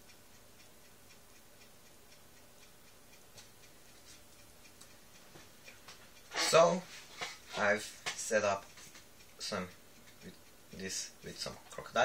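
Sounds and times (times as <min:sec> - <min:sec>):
faint regular ticking: 0:00.0 - 0:12.0.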